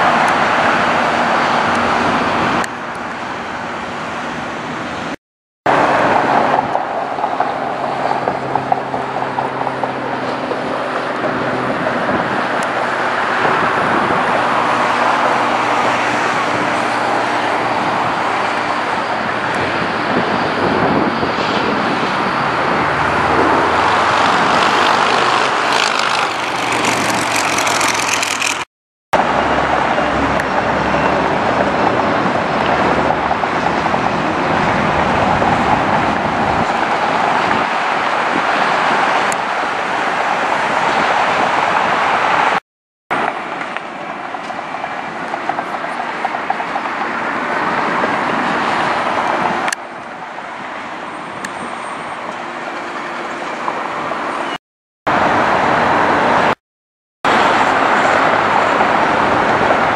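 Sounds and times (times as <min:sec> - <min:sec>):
road traffic noise: 0:00.0 - 0:56.6, 0:57.2 - 0:59.9.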